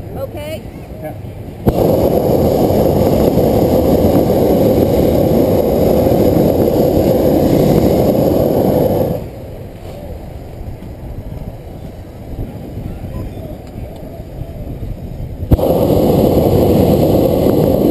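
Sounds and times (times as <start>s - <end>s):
propane burner blast: 1.6s - 11.7s, 12.4s - 17.9s.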